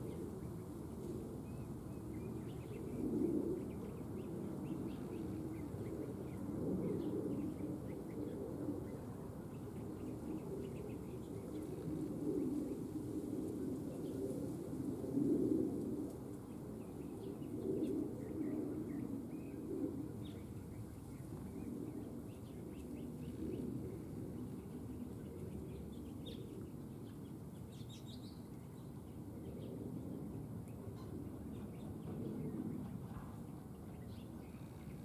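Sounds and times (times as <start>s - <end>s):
songbirds chirping faintly: 0.0s - 35.0s.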